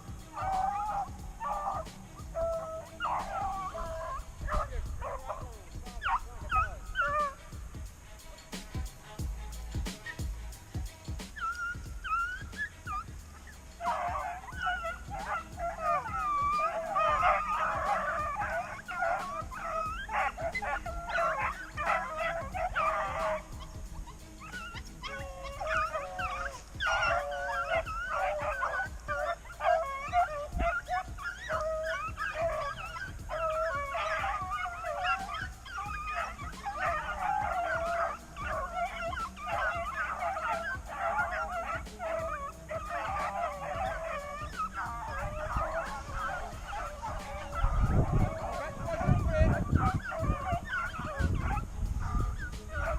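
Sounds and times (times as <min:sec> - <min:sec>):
pack of dogs baying: 0:00.0 - 0:52.9.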